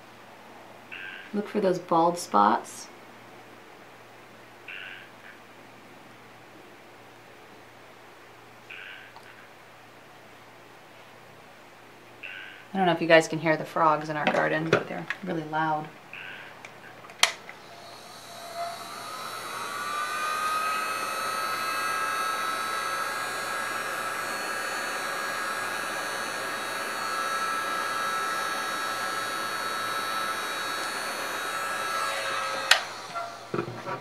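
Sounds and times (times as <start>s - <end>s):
heat gun fan whine: 0.0s - 34.0s.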